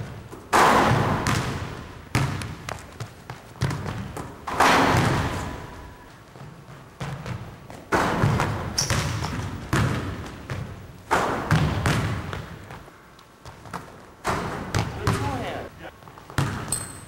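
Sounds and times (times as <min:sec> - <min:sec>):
basketball bouncing on wood floor: 0:00.0 - 0:05.6, 0:06.3 - 0:15.4, 0:16.1 - 0:17.0.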